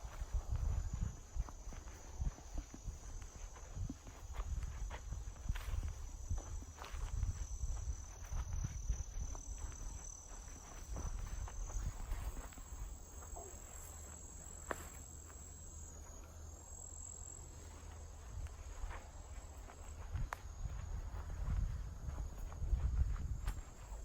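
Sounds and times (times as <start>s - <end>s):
chorus of crickets: 0.0s - 24.0s
footsteps on forest floor: 0.0s - 24.0s.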